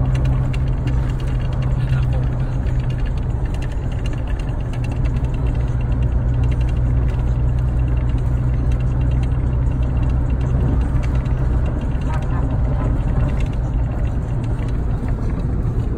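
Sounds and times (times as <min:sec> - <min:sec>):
car exhaust drone: 0:00.0 - 0:15.9
road noise: 0:00.0 - 0:15.9.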